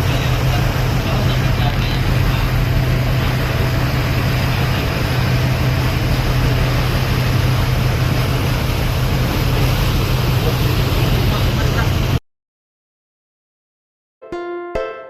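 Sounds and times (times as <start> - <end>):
ship diesel engines humming: 0.0 - 12.2.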